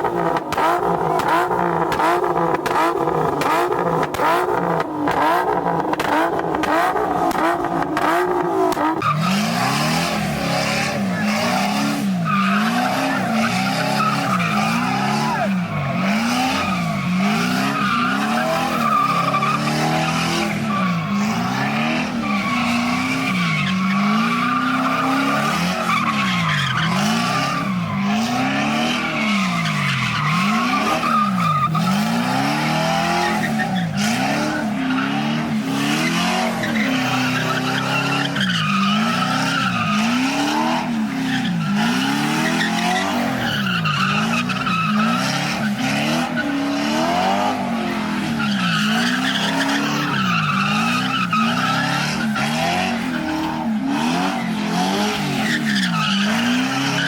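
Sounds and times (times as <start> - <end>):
car engine revving: 0.0 - 57.0
tyres squealing: 8.8 - 35.2, 36.0 - 57.0.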